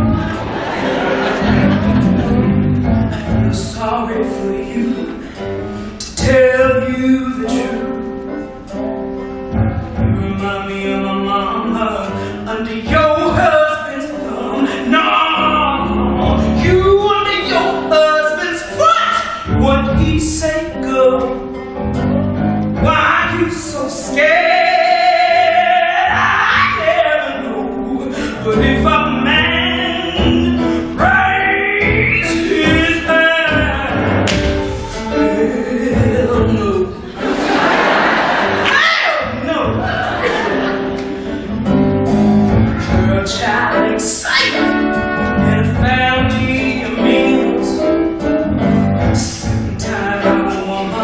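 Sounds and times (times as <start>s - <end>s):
pit orchestra playing: 0.0s - 51.0s.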